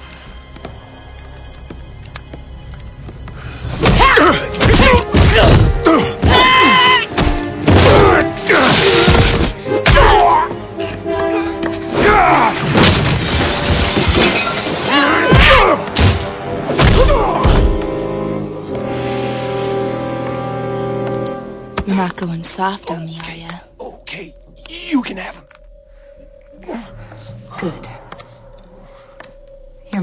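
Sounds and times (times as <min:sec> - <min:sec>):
dramatic music score: 0:00.0 - 0:30.0.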